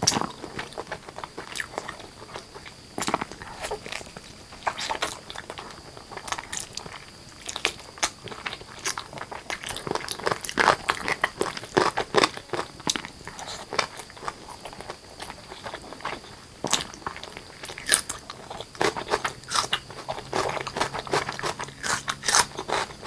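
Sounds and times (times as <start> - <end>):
mouth clicks and crunches: 0.0 - 23.0
person chewing food: 0.0 - 23.0.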